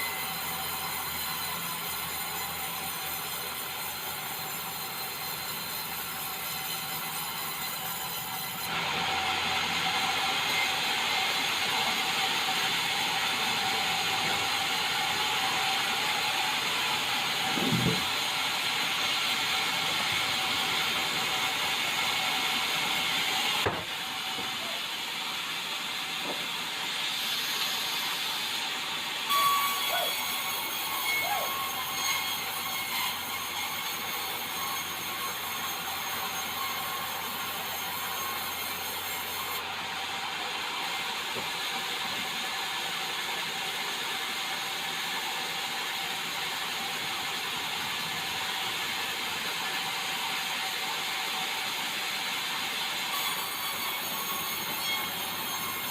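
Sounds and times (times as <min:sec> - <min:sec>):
sawmill saw hissing: 0:00.0 - 0:55.9.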